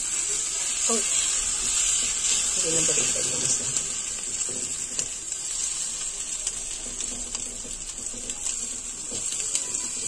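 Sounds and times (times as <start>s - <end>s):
oil sizzling in a pan: 0.0s - 10.0s
small crackles: 0.2s - 10.0s.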